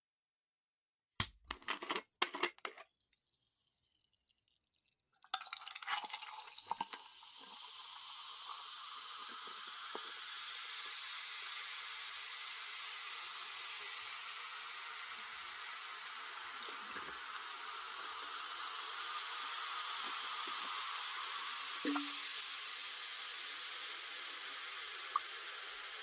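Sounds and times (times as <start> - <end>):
soda pouring and splashing: 2.4 - 26.0
carbonation bubbles fizzing: 2.9 - 26.0.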